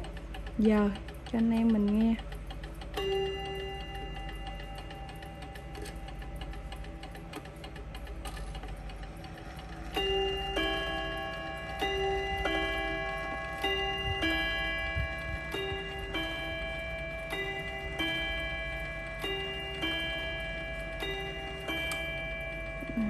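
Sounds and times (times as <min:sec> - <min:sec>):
clock chiming bing-bong: 0:00.0 - 0:23.0
clock ticking: 0:00.0 - 0:23.0.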